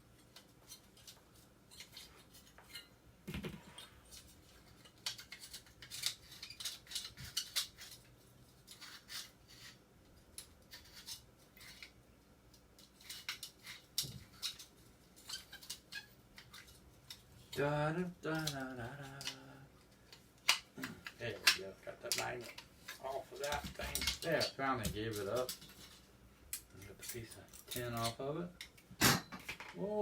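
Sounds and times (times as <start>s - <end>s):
metal fins clinking and scraping: 0.2s - 3.0s, 3.8s - 9.8s, 12.8s - 17.6s, 19.1s - 29.7s.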